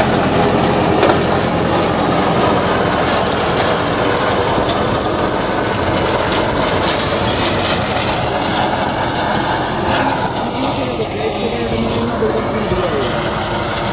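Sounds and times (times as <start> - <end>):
rotavator clattering in soil: 0.0 - 13.9.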